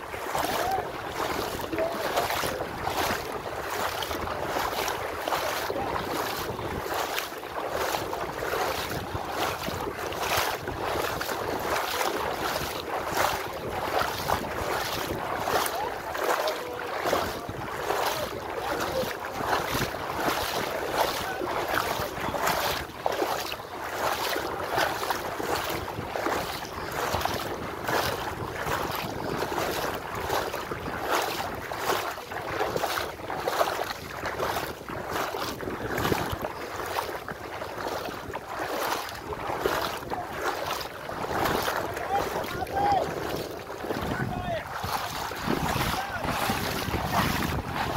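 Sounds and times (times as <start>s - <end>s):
wading through seawater splashing: 0.0s - 47.9s
wind buffeting microphone: 0.0s - 47.9s.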